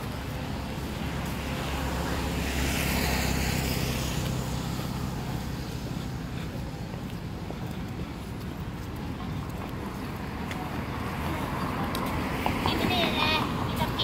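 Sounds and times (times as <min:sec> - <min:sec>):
low traffic rumble: 0:00.0 - 0:14.0
vehicle passing: 0:00.0 - 0:14.0.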